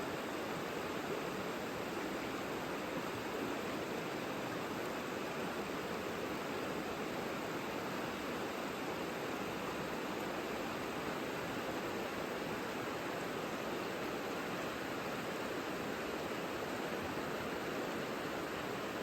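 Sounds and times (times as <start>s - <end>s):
river flowing: 0.1s - 19.0s.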